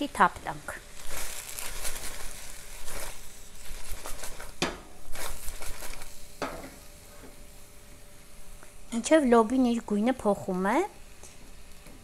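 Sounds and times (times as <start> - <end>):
butter sizzling: 0.0 - 11.9.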